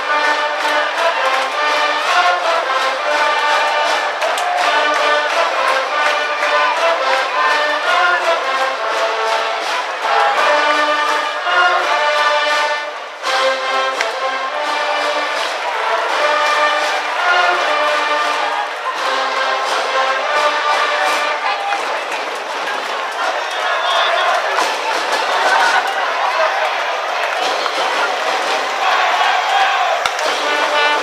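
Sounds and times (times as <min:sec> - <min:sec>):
brass band playing a cheering tune: 0:00.0 - 0:31.0.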